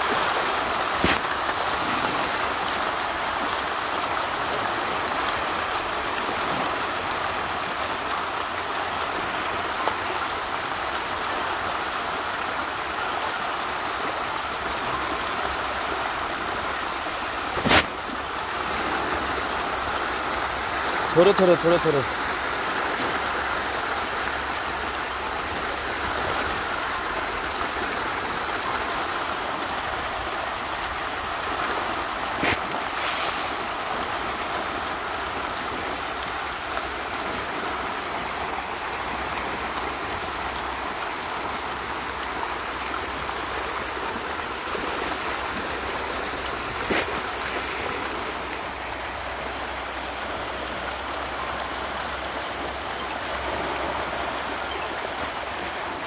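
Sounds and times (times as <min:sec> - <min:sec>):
fish splashing in water: 0:00.0 - 0:10.4, 0:11.0 - 0:56.0.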